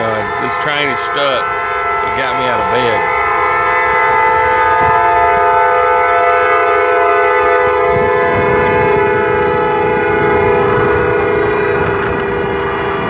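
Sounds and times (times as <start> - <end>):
train air horn blaring: 0.0 - 13.0.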